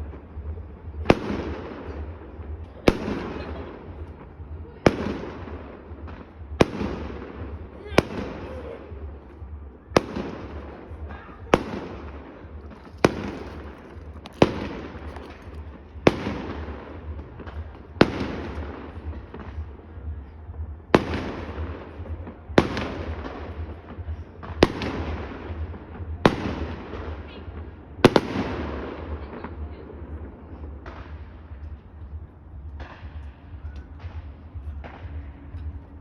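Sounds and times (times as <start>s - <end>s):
fireworks bangs: 0.0s - 35.9s
steady low rumble: 0.0s - 36.0s.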